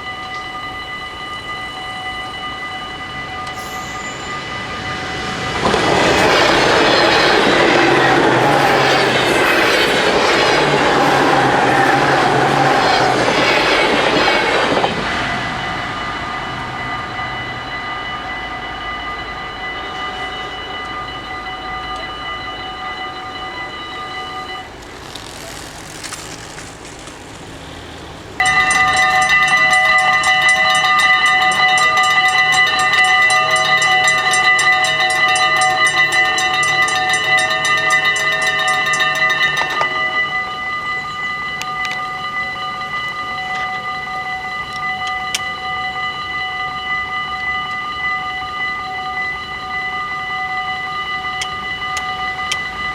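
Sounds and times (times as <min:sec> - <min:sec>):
crossing warning bells ringing: 0:00.0 - 0:52.9
train rumbling: 0:00.0 - 0:52.9.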